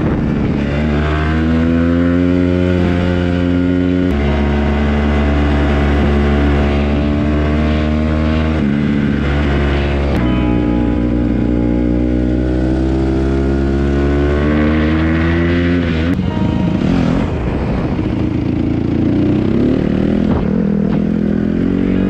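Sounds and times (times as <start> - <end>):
dirt bike engine running: 2.5 - 22.0.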